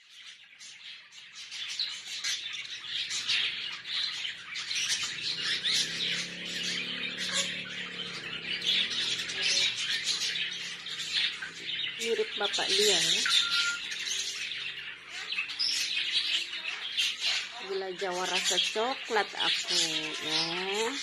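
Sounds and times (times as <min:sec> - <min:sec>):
budgerigars chattering and chirping: 0:00.0 - 0:21.0.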